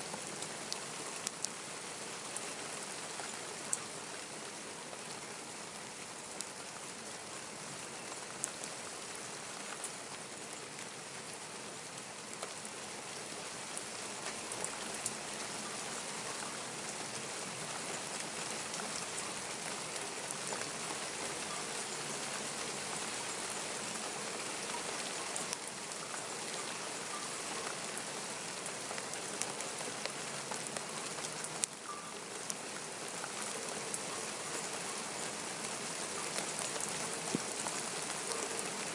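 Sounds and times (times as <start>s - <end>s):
raindrops pattering close by: 0.0s - 38.9s
steady rainfall: 0.0s - 38.9s.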